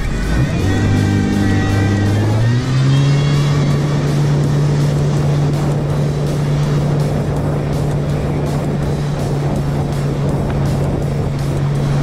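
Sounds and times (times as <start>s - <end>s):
jet ski engine running: 0.0s - 12.0s
rush of water and wind: 0.0s - 12.0s.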